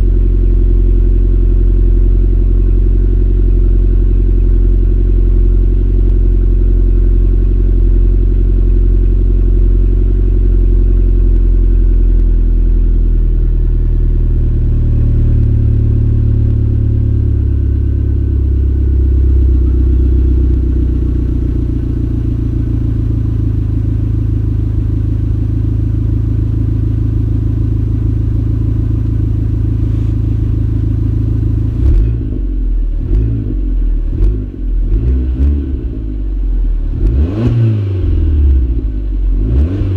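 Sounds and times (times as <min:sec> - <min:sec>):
car engine idling: 0:00.0 - 0:39.8.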